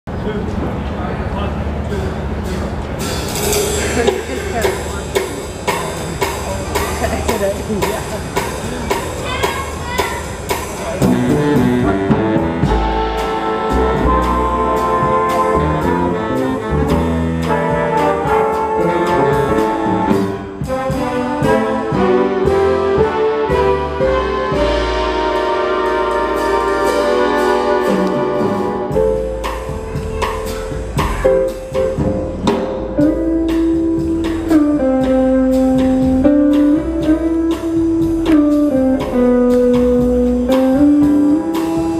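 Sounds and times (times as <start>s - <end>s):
jazz big band playing: 0.1s - 41.9s
saxophone and brass chords: 3.4s - 41.9s.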